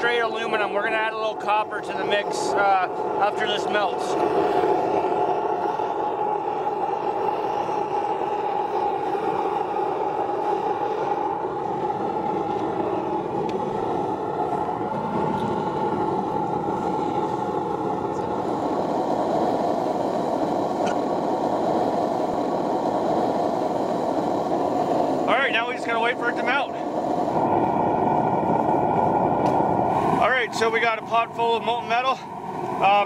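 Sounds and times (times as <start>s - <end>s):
furnace burner rushing: 0.0s - 33.0s.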